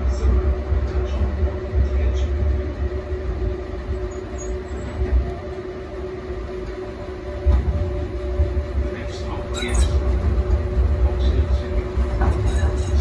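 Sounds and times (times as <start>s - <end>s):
steady hum: 0.0s - 13.0s
tram rumbling along track: 0.0s - 13.0s.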